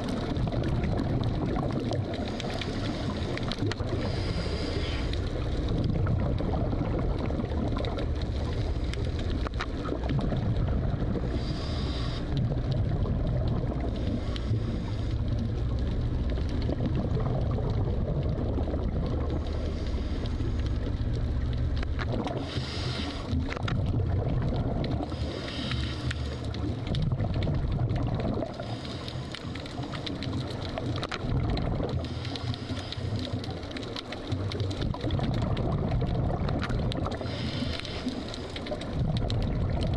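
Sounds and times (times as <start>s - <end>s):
exhaled bubbles gurgling: 0.0s - 39.9s
low underwater rumble: 0.0s - 39.9s.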